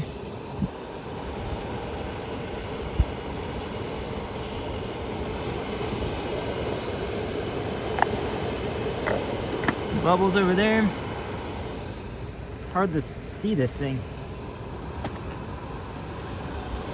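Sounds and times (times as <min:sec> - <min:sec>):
gas stoves roaring: 0:00.0 - 0:16.9
wind: 0:00.0 - 0:16.9.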